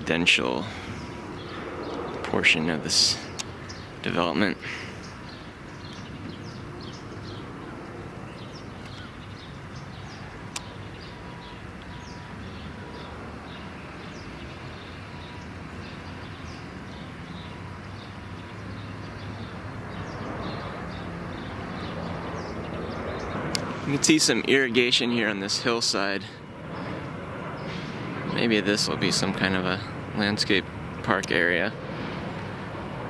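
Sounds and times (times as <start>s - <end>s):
small birds chirping: 0.0s - 32.7s
distant traffic rumble: 0.0s - 33.0s.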